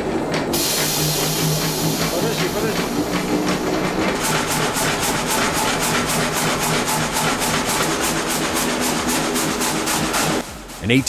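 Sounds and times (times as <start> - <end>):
sawmill saw cutting log: 0.0 - 10.4
machine hum: 0.0 - 10.8.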